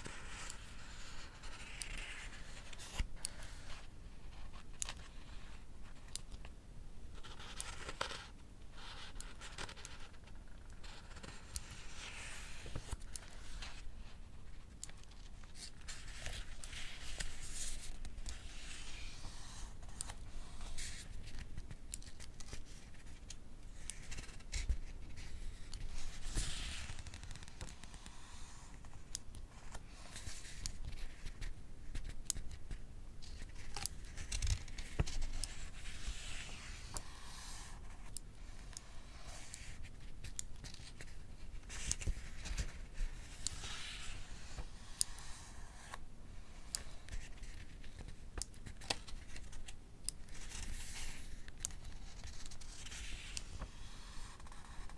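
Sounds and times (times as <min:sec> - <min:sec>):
book pages turning: 0:00.0 - 0:06.4, 0:08.9 - 0:32.7, 0:33.3 - 0:54.9.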